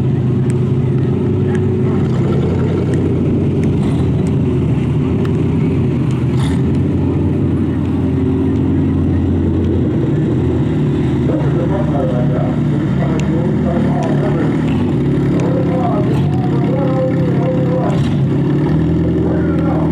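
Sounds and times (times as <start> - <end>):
car engines idling: 0.0 - 19.9.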